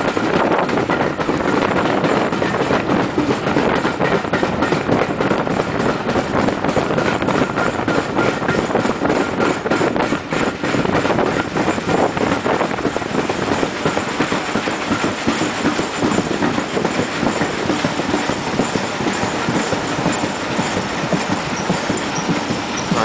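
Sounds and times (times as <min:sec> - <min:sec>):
train wheel and wind rush: 0:00.0 - 0:23.0
wheels clacking over rail joints: 0:00.0 - 0:23.0.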